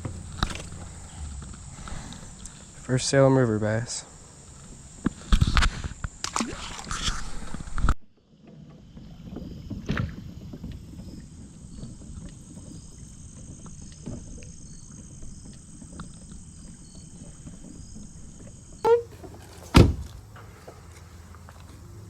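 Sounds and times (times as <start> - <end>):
water sloshing around kayak: 0.0 - 7.6, 8.3 - 22.0.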